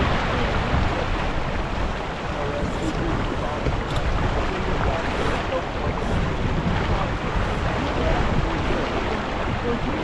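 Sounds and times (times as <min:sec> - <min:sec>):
water rushing along hull: 0:00.0 - 0:10.0
wind buffeting microphone: 0:00.0 - 0:10.0.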